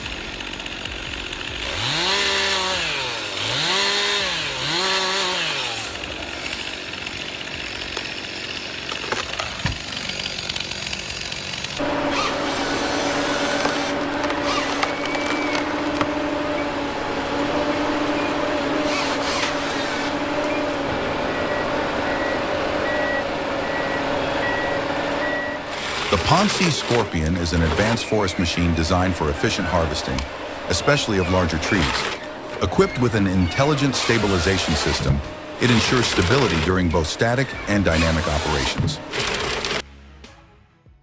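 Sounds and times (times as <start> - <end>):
chainsaw revving: 0.0 - 39.8
steady engine drone: 0.0 - 39.9.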